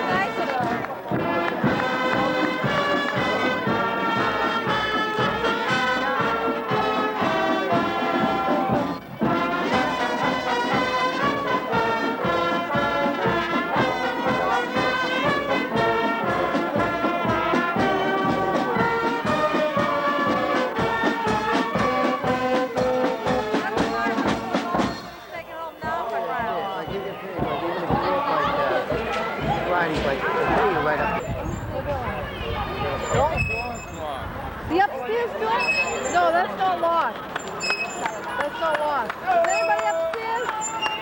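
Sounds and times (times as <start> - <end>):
steady drum beat: 0.0 - 34.9
marching brass band playing: 0.0 - 41.0.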